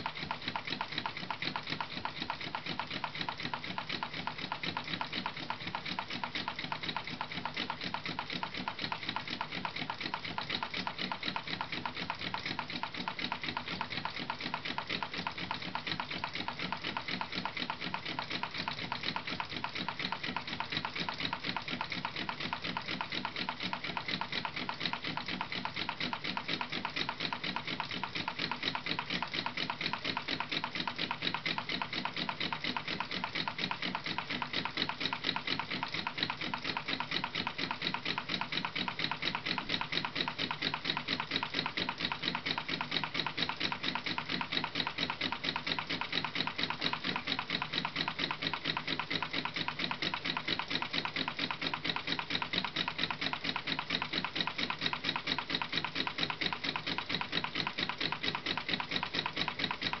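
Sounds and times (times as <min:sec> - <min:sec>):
small engine rapid ticking: 0:00.0 - 1:00.0.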